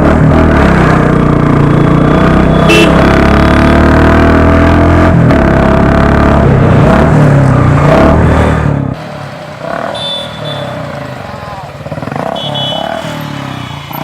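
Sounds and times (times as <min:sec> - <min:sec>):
loud motorcycle exhaust revving: 0:00.0 - 0:14.0.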